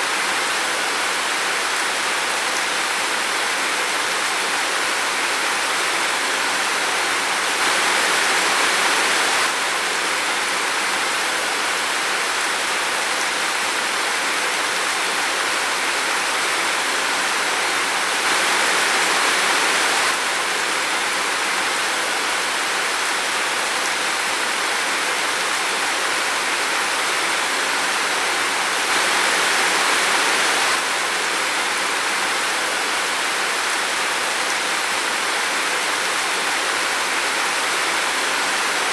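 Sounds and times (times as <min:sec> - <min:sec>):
steady rain in a forest: 0:00.0 - 0:38.9.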